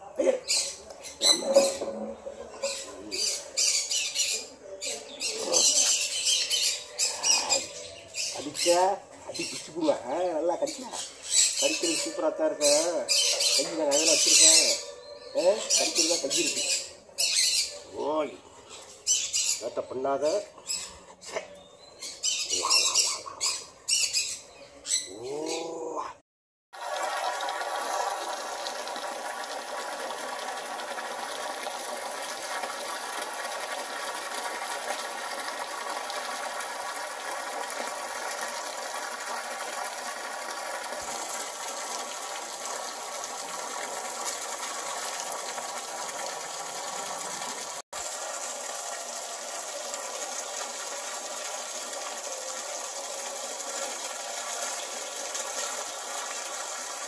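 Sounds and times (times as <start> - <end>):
water running from a hose: 0.0 - 17.6, 26.7 - 57.0.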